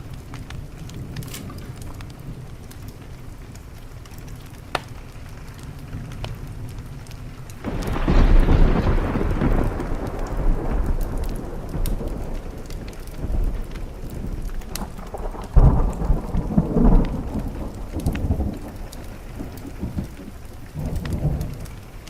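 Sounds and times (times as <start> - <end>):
steady rain: 0.0 - 22.0
thunder rumbling: 0.0 - 22.0
wood fire crackling and popping: 0.0 - 22.0.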